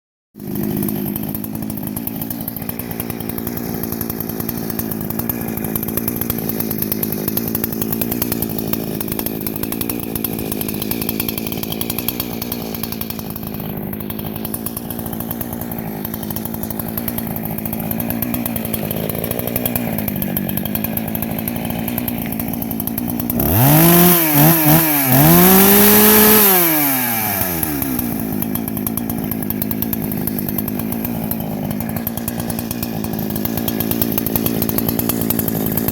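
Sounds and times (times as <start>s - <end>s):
chainsaw idling and revving: 0.4s - 35.9s.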